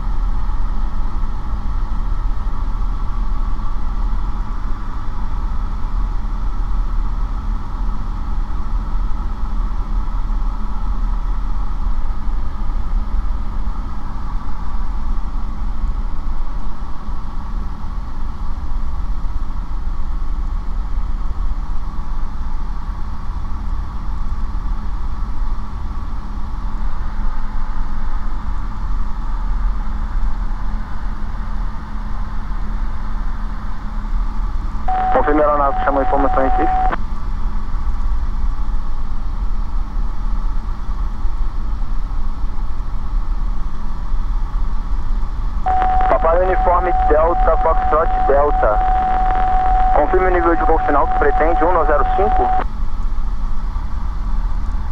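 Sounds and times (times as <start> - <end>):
light aircraft engine drone: 0.0 - 54.9.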